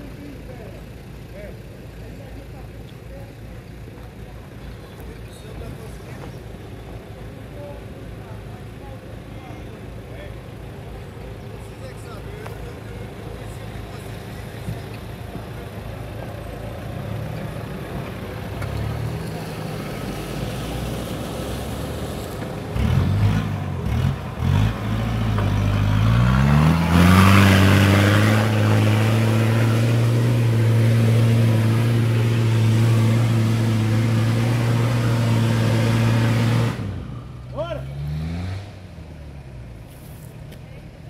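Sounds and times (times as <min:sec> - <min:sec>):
engine labouring under load: 0:00.0 - 0:41.0.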